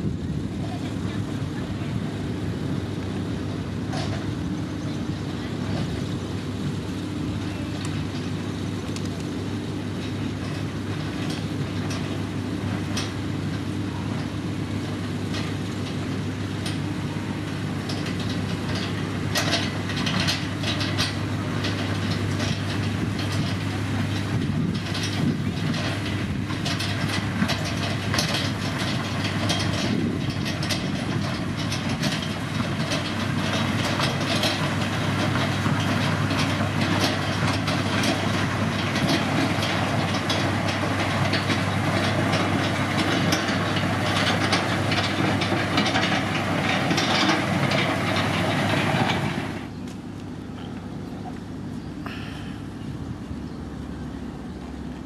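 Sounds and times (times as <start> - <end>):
diesel engine hum: 0.0 - 55.0
machinery clanking and rattling: 0.0 - 55.0.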